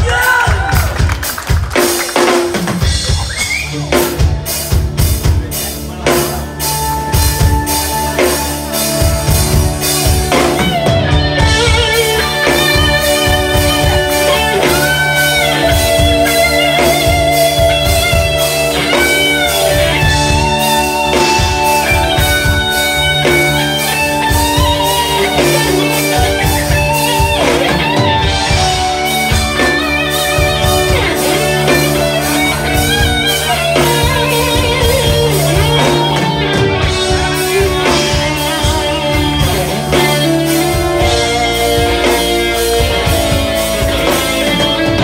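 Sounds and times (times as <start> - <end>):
bass: 0.0 - 45.0
drum kit: 0.0 - 45.0
melodic lead with vibrato: 1.5 - 45.0.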